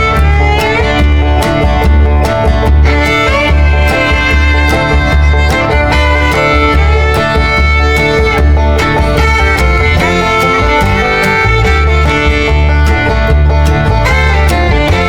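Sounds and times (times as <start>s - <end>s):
upbeat fiddle bluegrass music: 0.0s - 15.0s.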